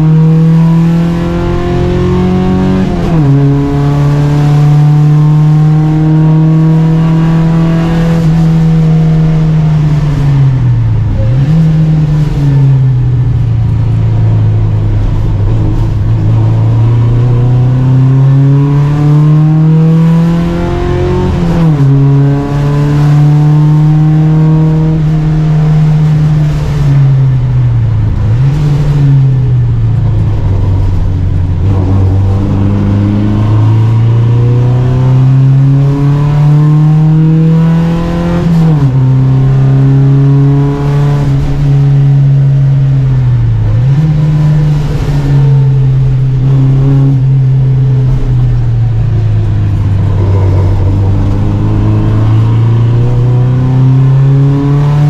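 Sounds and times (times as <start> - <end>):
race car engine at high revs: 0.0 - 55.0
throttle blips on downshifts: 0.0 - 55.0.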